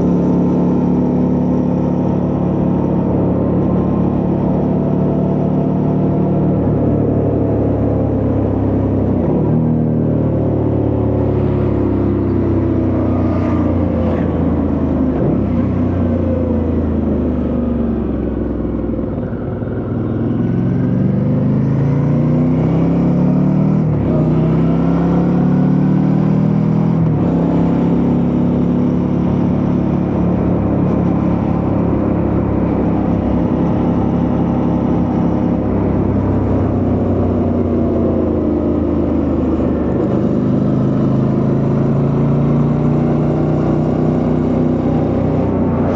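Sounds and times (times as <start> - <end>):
motorcycle engine accelerating and shifting: 0.0 - 45.9.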